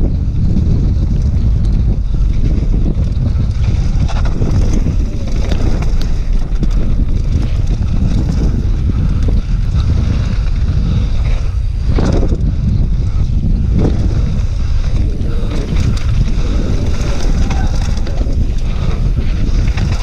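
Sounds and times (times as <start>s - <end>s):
bike clicking and rattling: 0.0s - 20.0s
wind buffeting microphone: 0.0s - 20.0s
tyres running on dirt: 0.8s - 20.0s.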